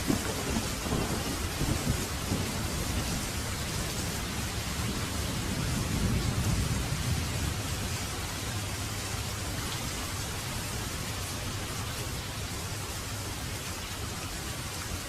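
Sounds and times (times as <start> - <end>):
thunder rumbling: 0.0 - 13.3
heavy rain falling: 0.0 - 15.0.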